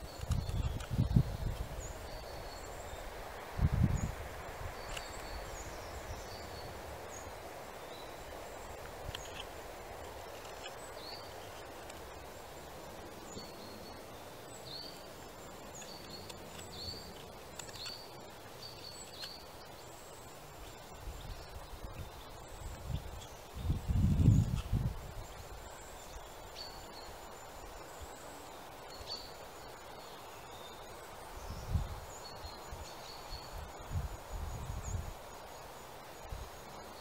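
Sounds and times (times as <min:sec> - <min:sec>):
outdoor background hiss: 0:00.0 - 0:37.0
small birds chirping: 0:00.0 - 0:37.0.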